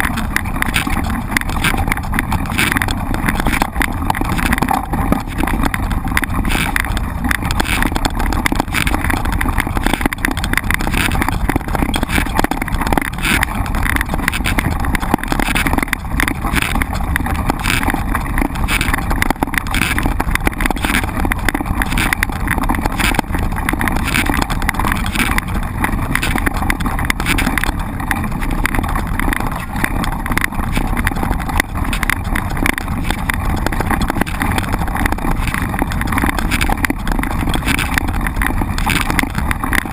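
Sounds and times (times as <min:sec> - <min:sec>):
bike knocks and rattles: 0:00.0 - 0:39.9
wind rush on microphone: 0:00.0 - 0:39.9.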